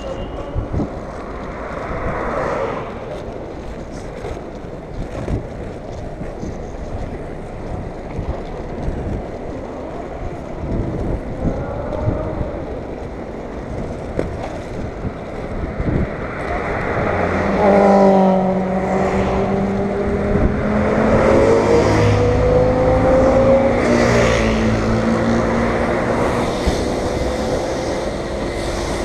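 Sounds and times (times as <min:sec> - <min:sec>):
skate wheels rolling on asphalt: 0:00.0 - 0:29.0
street traffic: 0:00.0 - 0:29.0
wind on microphone: 0:00.0 - 0:29.0.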